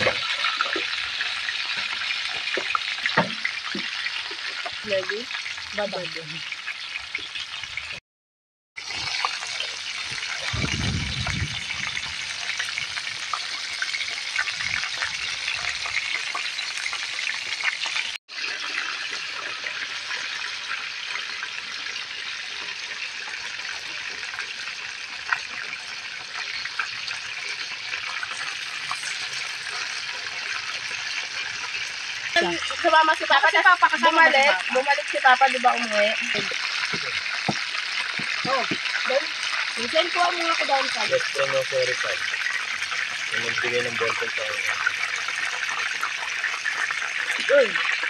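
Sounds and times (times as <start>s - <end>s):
chicken deep-frying in oil: 0.0s - 8.0s, 8.8s - 48.0s.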